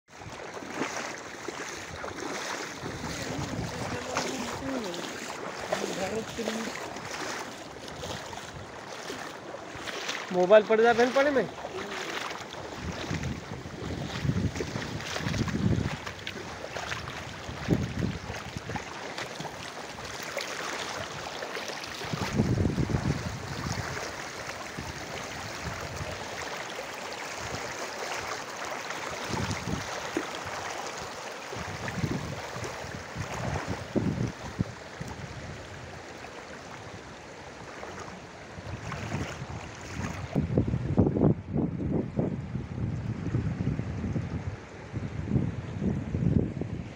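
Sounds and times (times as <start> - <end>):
wind buffeting microphone: 0.1 - 10.4, 11.2 - 20.2, 22.0 - 26.4, 29.2 - 36.1, 36.8 - 46.9
floodwater rushing: 0.1 - 41.1.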